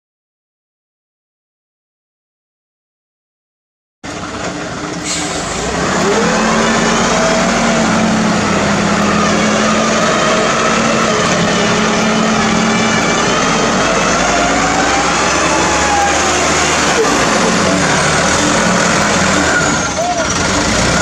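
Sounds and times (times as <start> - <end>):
truck diesel engine running: 4.1 - 21.0.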